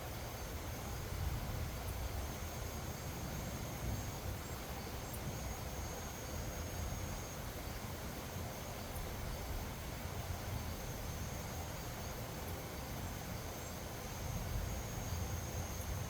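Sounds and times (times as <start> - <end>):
faint high insect trill: 0.0 - 16.0.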